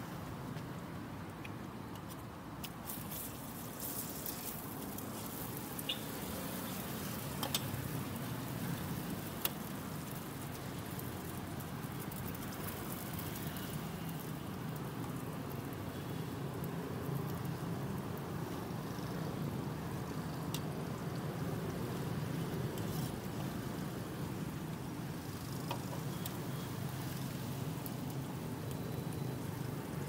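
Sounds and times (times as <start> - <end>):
batter sizzling in waffle iron: 2.7 - 30.0.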